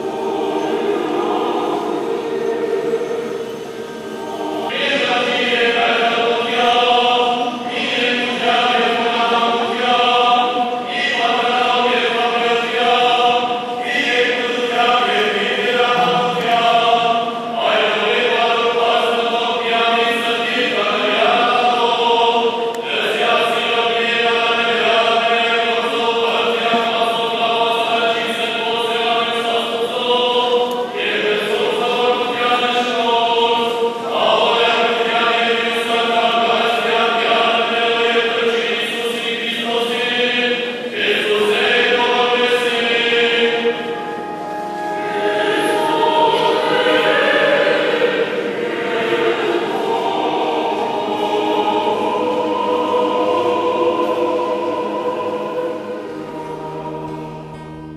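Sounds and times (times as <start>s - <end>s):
church choir chanting: 0.0s - 57.9s.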